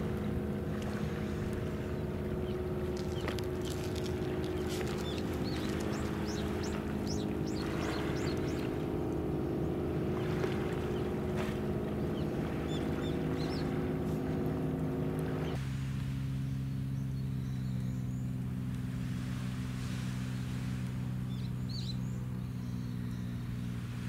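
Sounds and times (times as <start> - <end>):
low machinery hum: 0.0 - 24.0.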